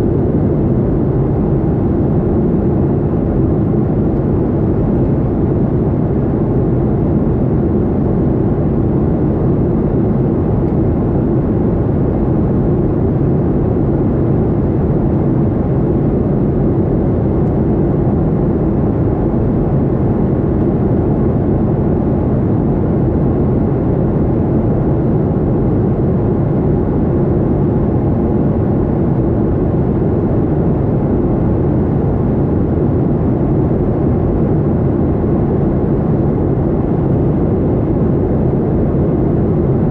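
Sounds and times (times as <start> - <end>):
faint steady hum: 0.0 - 39.9
jet engines droning: 0.0 - 39.9.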